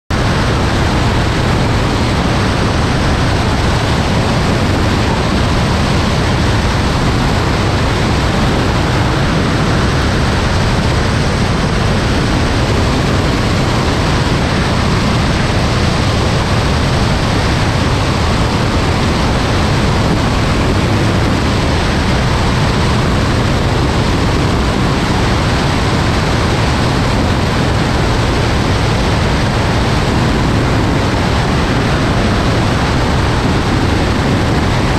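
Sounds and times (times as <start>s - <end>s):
airplane engine and propeller drone: 0.1s - 34.9s
wind rushing over camera: 0.1s - 34.9s.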